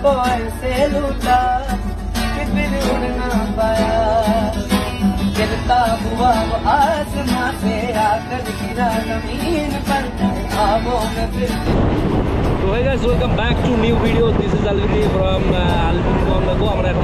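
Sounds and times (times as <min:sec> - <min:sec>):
plucked guitar: 0:00.0 - 0:17.0.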